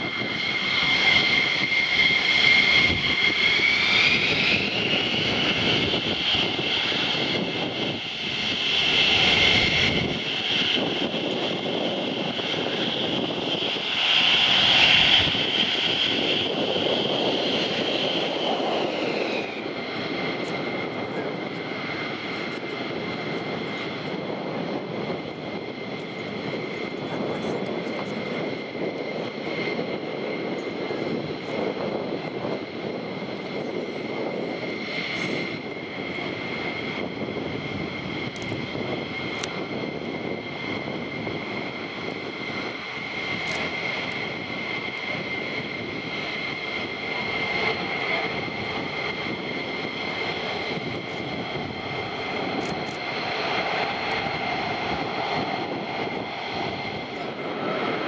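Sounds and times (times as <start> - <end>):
high-pitched jet engine whine: 0.0 - 58.0.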